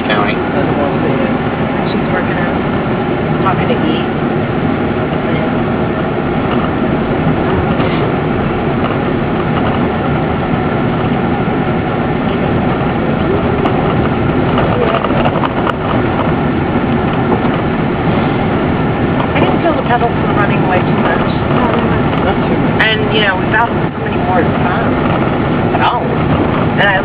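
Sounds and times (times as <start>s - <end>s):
van engine and tyres on dirt road: 0.0s - 27.0s.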